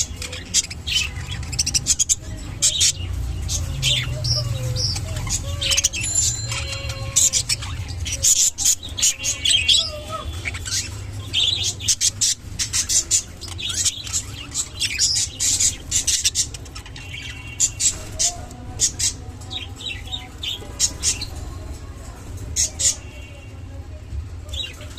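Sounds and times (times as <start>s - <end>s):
budgerigars chirping and chattering: 0.0s - 24.9s.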